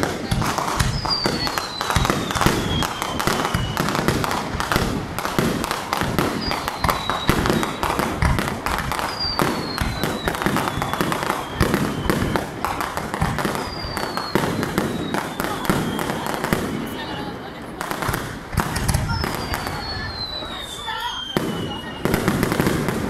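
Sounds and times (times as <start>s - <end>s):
fireworks bangs and crackling: 0.0s - 23.0s
descending firework whistle: 0.6s - 5.0s, 5.7s - 17.3s, 18.7s - 23.0s.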